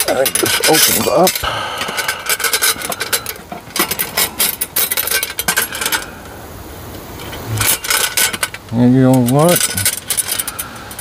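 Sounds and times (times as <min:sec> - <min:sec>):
metal panels clinking and rattling: 0:00.0 - 0:06.2, 0:07.1 - 0:11.0.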